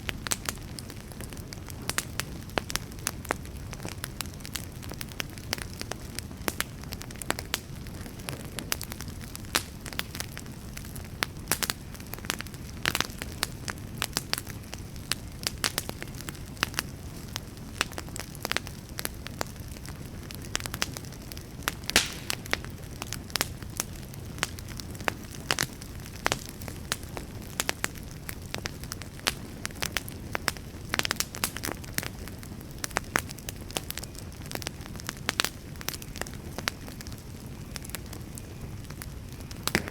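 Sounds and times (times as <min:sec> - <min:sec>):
logs crackling and popping: 0:00.0 - 0:39.9
low rumble of flame: 0:00.0 - 0:39.9.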